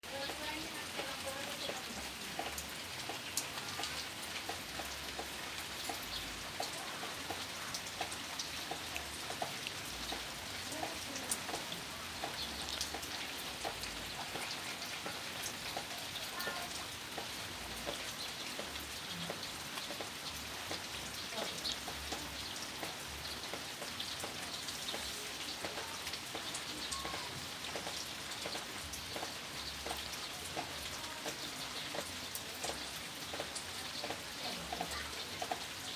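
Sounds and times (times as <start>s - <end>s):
rain pattering: 0.0s - 35.9s.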